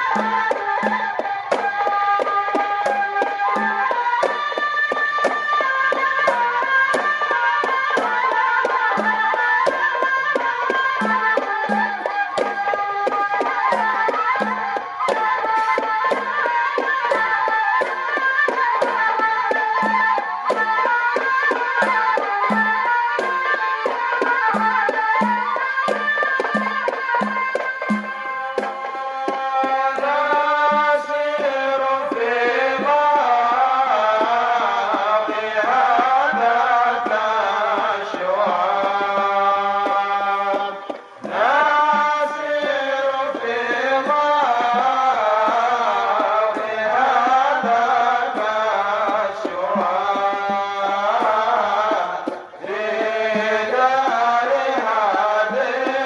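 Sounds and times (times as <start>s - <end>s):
drum beating: 0.0s - 56.0s
men chanting in unison: 0.0s - 56.0s.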